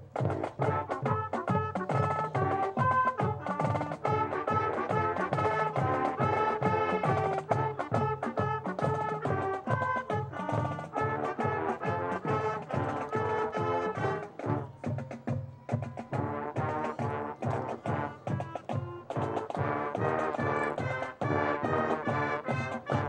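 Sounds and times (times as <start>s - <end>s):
marching band playing: 0.0s - 23.0s
steady drum beat: 0.0s - 23.0s
sustained brass chords: 2.0s - 14.7s, 16.2s - 23.0s.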